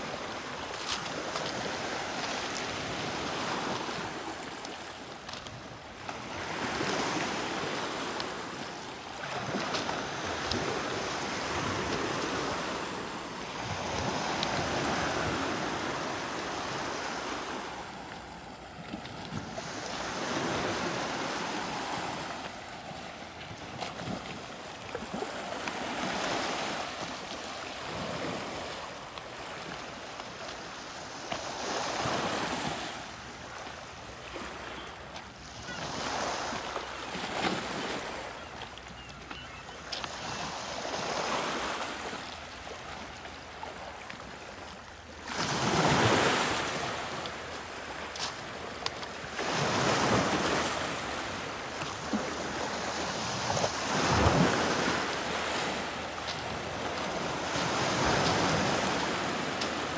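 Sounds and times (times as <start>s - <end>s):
waves lapping on rocky shore: 0.0s - 59.9s.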